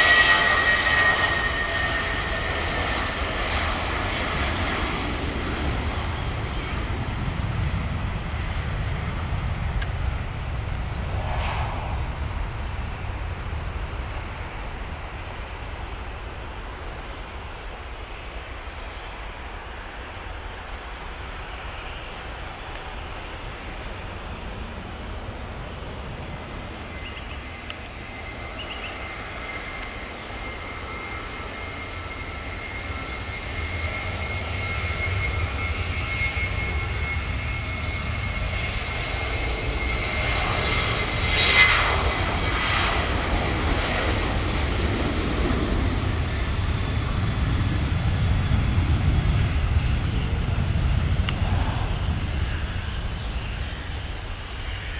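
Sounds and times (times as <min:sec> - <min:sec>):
jet engine high whine: 0:00.0 - 0:54.9
jet engine low rumble: 0:00.0 - 0:54.9.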